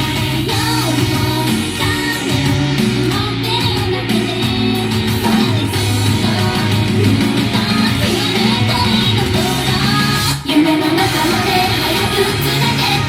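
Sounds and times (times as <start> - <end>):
female voices singing: 0.0 - 13.0
loud backing track: 0.0 - 13.0.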